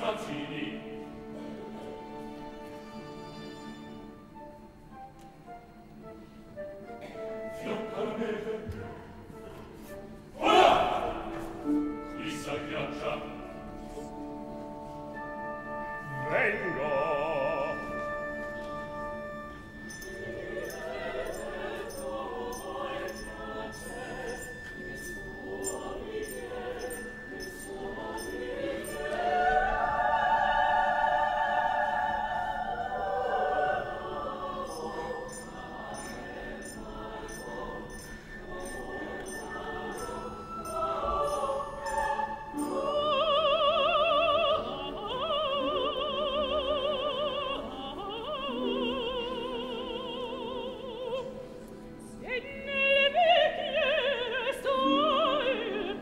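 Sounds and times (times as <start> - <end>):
opera singing: 0.0 - 3.0, 7.4 - 56.0
orchestra: 0.0 - 56.0.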